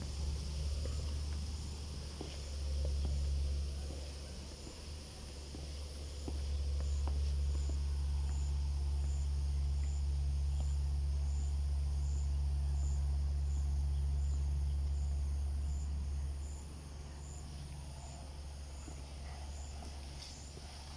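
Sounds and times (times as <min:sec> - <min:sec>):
insects chirping: 0:00.0 - 0:20.9
steady high drone: 0:00.0 - 0:20.9
steady low rumble: 0:00.0 - 0:20.9.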